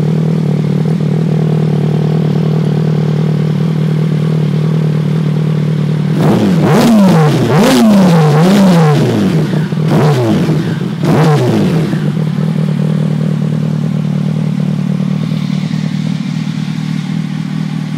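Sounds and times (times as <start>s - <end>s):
motorcycle engine revving and idling: 0.0s - 17.9s.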